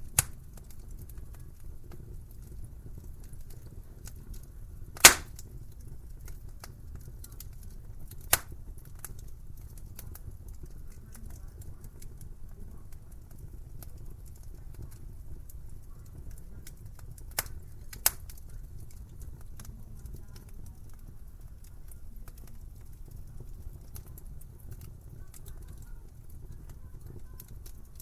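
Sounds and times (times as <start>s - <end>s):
sharp pops of fire: 0.0s - 28.0s
wood fire crackling: 0.0s - 28.0s.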